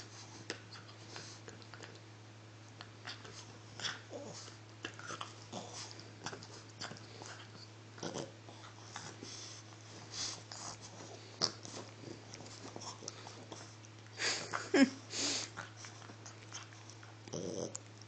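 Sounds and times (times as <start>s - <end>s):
puppy chewing a toy: 0.0s - 14.2s, 15.5s - 18.0s.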